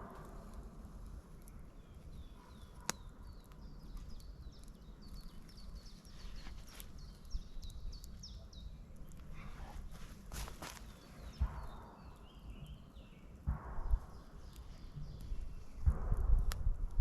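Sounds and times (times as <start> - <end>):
songbird chirping: 0.9 - 15.9.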